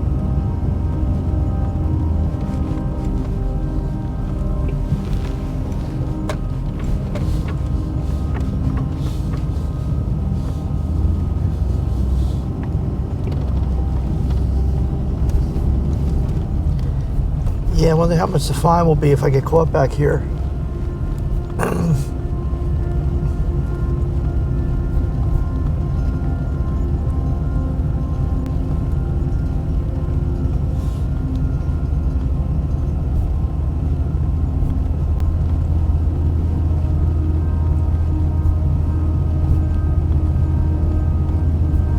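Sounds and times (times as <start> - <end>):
truck engine and road rumble: 0.0 - 41.9.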